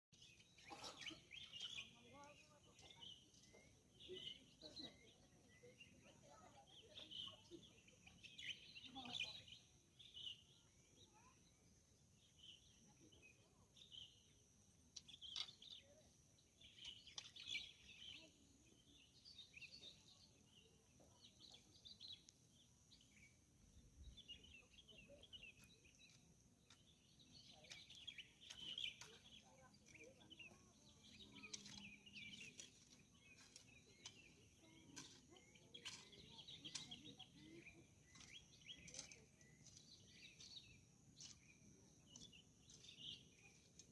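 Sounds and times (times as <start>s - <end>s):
songbirds chirping and singing: 0.2s - 43.9s.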